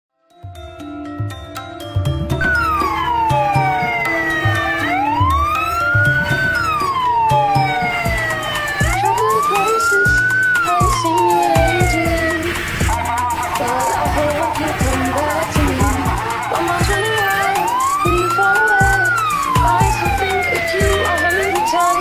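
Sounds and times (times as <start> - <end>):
background music with a beat: 0.3 - 22.0
emergency siren wailing: 2.4 - 22.0.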